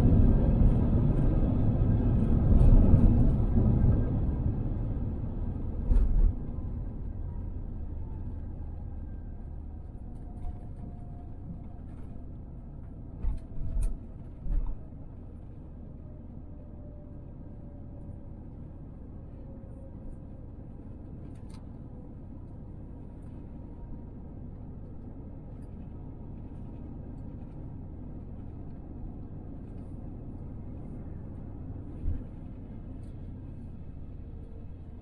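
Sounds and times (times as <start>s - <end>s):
aircraft cabin rumble: 0.0s - 35.0s.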